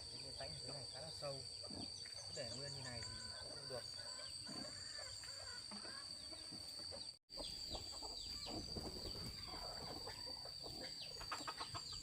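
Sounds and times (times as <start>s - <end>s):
chickens clucking: 0.8s - 12.0s.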